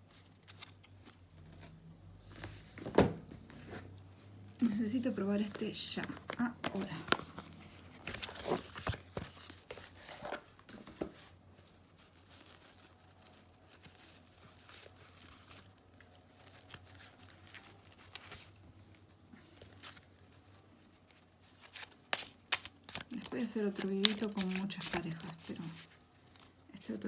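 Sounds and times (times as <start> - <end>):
paper rustling and crinkling: 0.0 - 3.9, 4.6 - 27.0.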